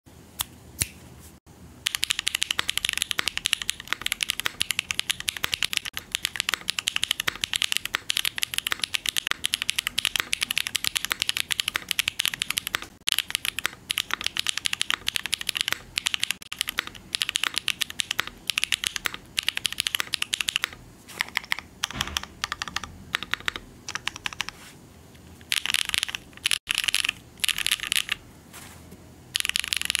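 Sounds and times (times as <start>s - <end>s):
mechanical keyboard typing: 1.8s - 24.6s, 25.4s - 28.2s, 29.3s - 30.0s.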